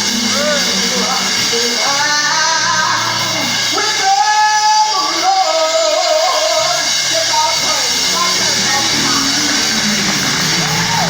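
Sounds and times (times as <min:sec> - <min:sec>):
gospel singing: 0:00.0 - 0:11.0
musical accompaniment: 0:00.0 - 0:11.0.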